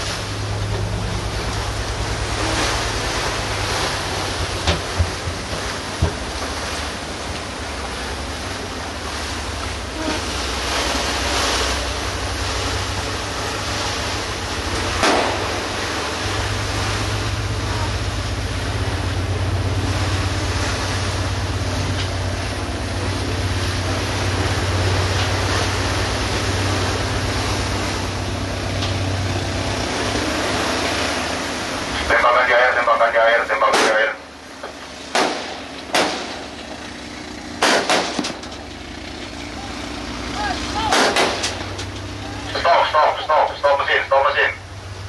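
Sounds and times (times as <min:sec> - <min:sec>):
boat engine drone: 0:00.0 - 0:45.0
rushing water: 0:00.0 - 0:45.0.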